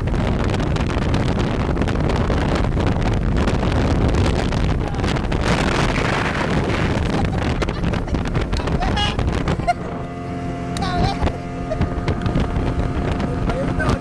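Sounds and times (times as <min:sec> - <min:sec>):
boat motor: 0:00.0 - 0:14.0
water rushing along hull: 0:00.0 - 0:14.0
wind buffeting microphone: 0:00.0 - 0:14.0.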